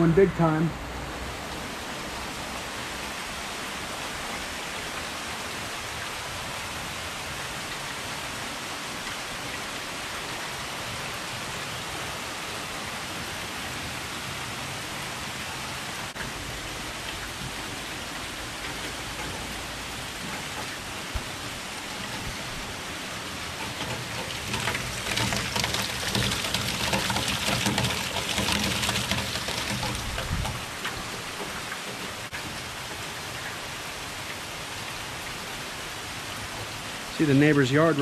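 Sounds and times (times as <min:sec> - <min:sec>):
heavy rain: 0:00.0 - 0:38.0
water gushing from downspout: 0:00.4 - 0:38.0.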